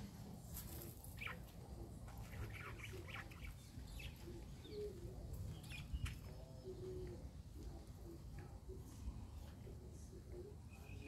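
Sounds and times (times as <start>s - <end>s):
birds chirping: 0.7s - 11.0s.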